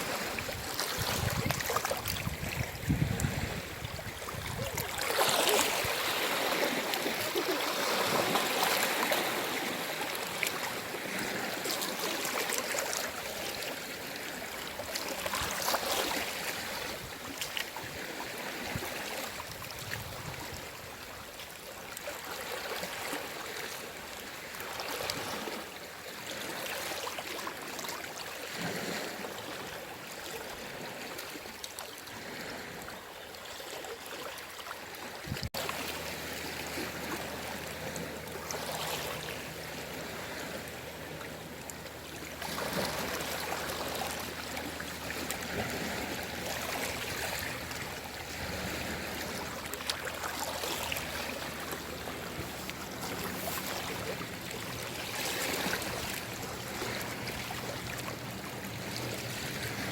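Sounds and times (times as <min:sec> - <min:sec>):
sea waves washing ashore: 0:00.0 - 0:59.9.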